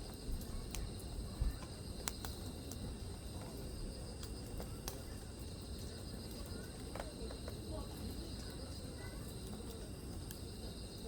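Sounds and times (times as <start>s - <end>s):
wood bonfire crackling: 0.0s - 11.0s.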